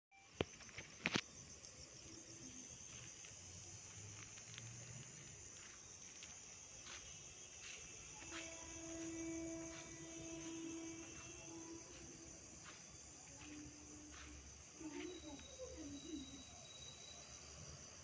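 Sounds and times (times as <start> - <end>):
crickets chirping: 0.1 - 18.0.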